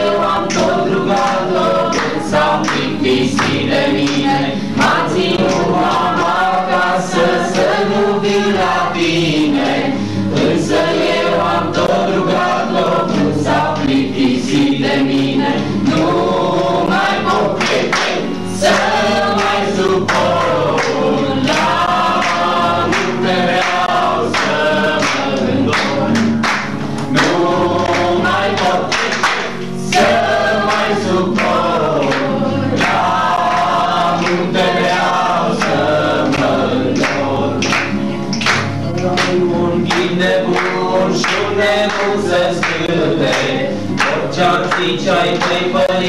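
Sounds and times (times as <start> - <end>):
acoustic guitar strumming: 0.0 - 46.0
group of people singing: 0.0 - 46.0.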